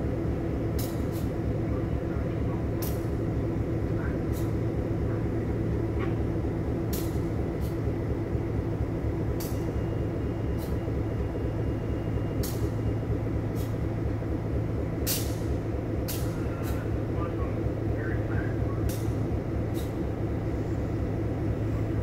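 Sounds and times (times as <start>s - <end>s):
diesel locomotive idling: 0.0s - 22.0s.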